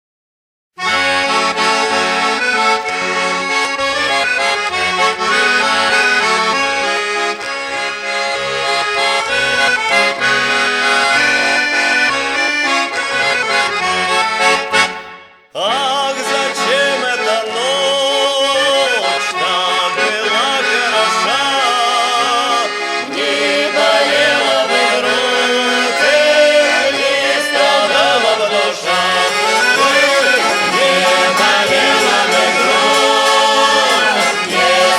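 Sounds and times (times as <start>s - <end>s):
accordion folk song: 0.8s - 34.9s.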